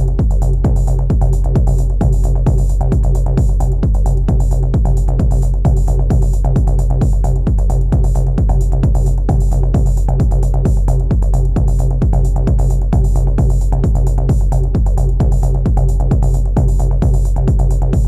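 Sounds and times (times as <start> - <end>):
drum machine kick and bass: 0.0 - 18.0.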